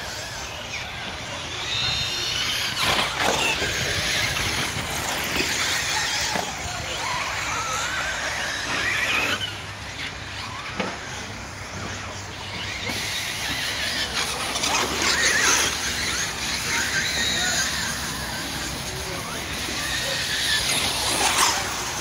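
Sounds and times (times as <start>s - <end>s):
rc car motors whining: 0.0s - 22.0s.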